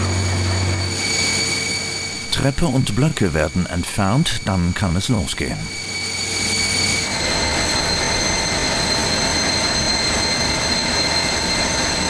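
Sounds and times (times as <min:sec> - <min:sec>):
jet turbine whine: 0:00.0 - 0:12.0.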